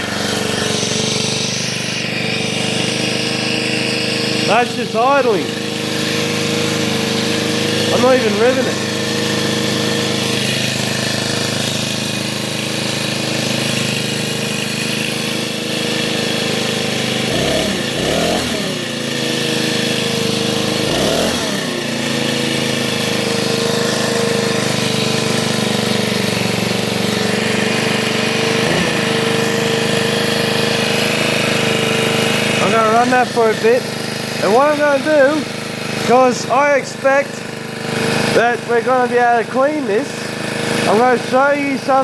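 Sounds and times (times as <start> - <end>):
leaf blower engine idling and revving: 0.0 - 42.0.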